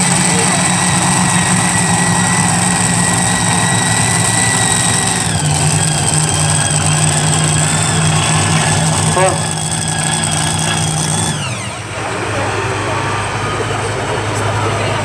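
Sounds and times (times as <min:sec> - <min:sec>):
constant high whine: 0:00.0 - 0:15.0
loud engine idling: 0:00.0 - 0:15.0.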